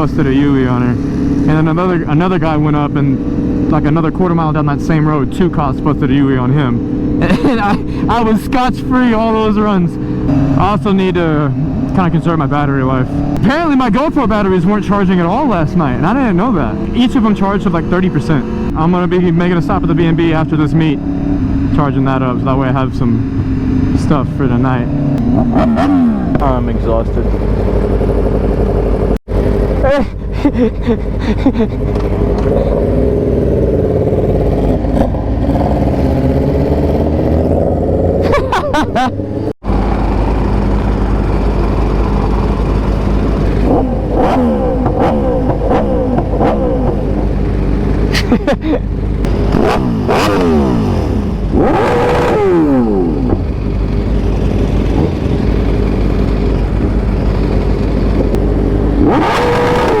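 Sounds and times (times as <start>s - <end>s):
motorcycle engines revving: 0.0s - 60.0s.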